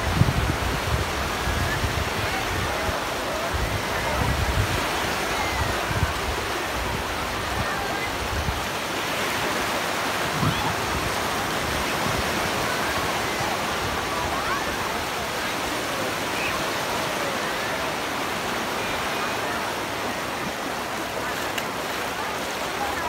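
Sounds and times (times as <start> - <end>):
small waves breaking: 0.0 - 23.0
distant shouts and chatter: 1.0 - 23.0.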